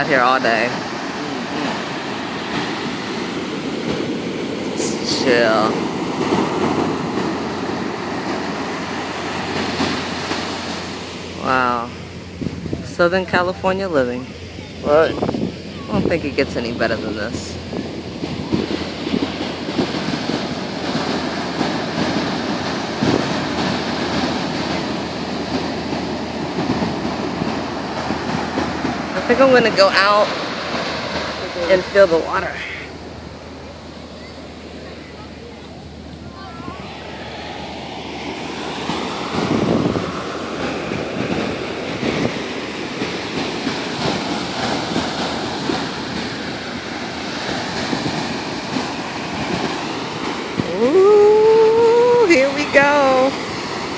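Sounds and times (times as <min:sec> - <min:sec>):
ocean surf: 0:00.0 - 0:53.9
wind buffeting microphone: 0:00.0 - 0:53.9.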